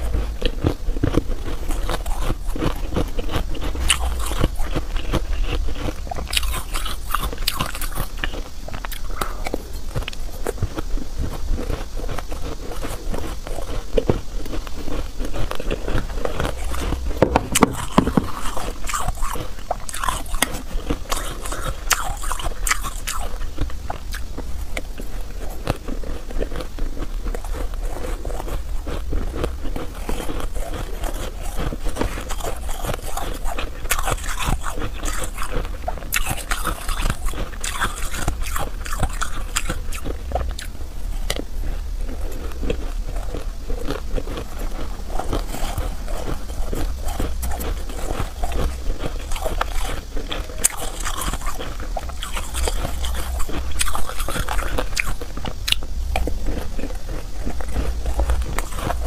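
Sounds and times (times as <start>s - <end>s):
chewing soft crunchy ice: 0.0s - 59.0s.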